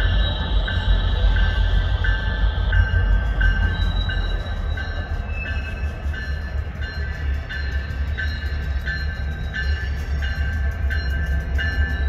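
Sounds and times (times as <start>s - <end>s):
diesel locomotive rumble: 0.0s - 12.0s
railroad crossing bell ringing: 0.0s - 12.0s.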